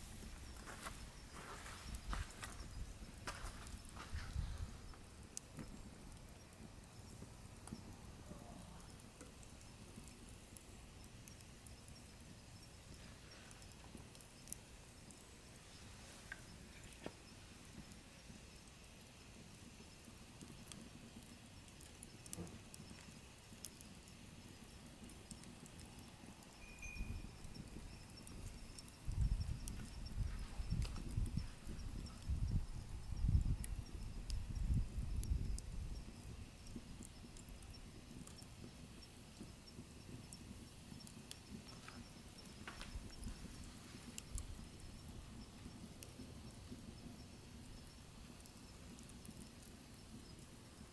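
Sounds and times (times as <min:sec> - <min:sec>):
low rumble of flame: 0:00.0 - 0:50.9
wood fire crackling: 0:00.0 - 0:50.9.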